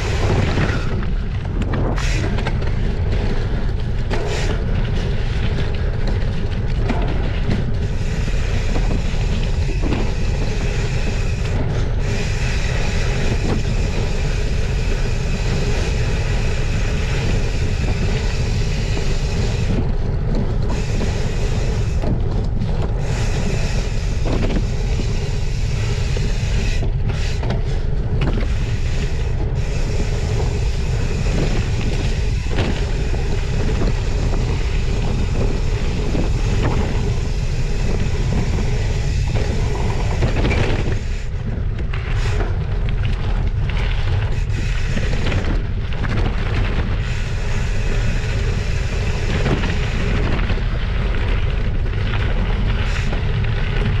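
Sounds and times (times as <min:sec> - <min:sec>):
bike rattling: 0:00.0 - 0:54.0
wind buffeting microphone: 0:00.0 - 0:54.0.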